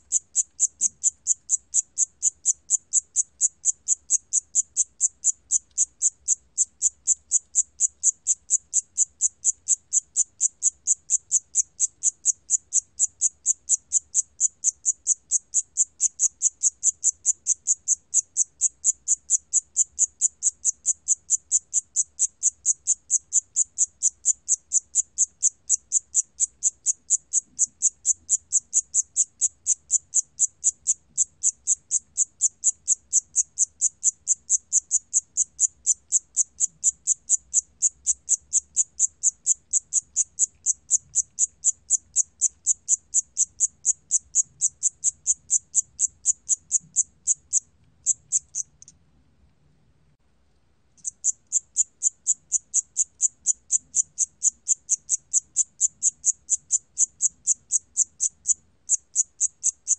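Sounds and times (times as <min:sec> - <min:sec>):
cricket chirping: 0:00.0 - 0:49.0, 0:51.0 - 0:59.9.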